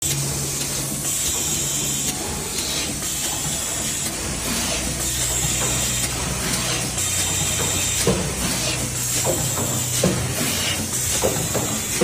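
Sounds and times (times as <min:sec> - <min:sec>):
machine hiss: 0:00.0 - 0:12.0
packing machine hum: 0:00.0 - 0:12.0.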